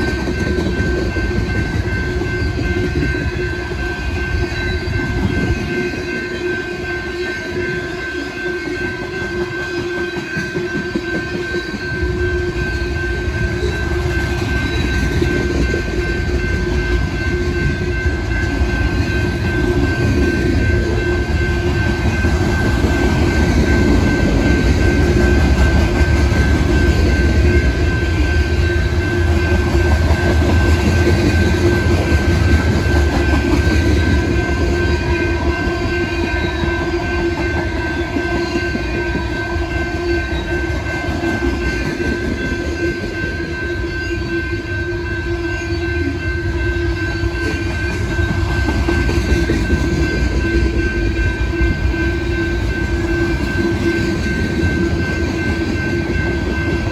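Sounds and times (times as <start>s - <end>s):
freight train rumbling on rails: 0.0s - 56.9s
steady high tone: 0.0s - 56.9s.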